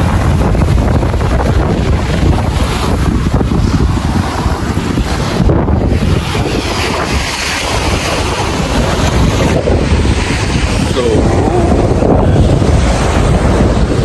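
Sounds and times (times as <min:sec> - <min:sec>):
waves washing onto beach: 0:00.0 - 0:14.0
wind buffeting microphone: 0:00.0 - 0:14.0.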